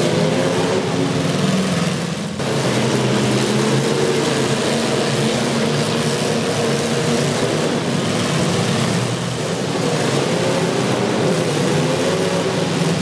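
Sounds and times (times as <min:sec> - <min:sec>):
car engines revving loud: 0:00.0 - 0:13.0.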